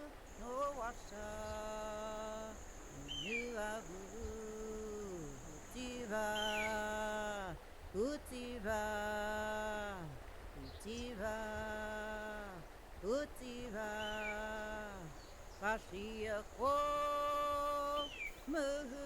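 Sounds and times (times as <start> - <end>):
woman singing slow chant: 0.0 - 19.0.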